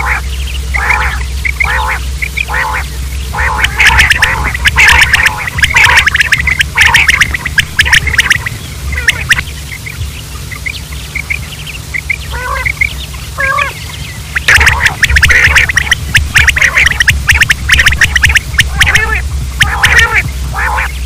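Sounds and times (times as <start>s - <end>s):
quail calling: 0.0s - 21.0s
steady low hum: 0.0s - 21.0s.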